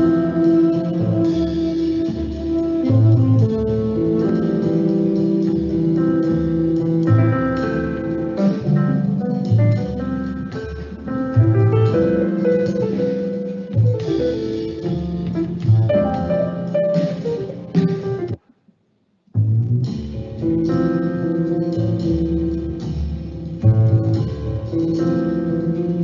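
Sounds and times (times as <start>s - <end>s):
light jazz music with plucked guitar: 0.0s - 18.4s, 19.5s - 26.0s.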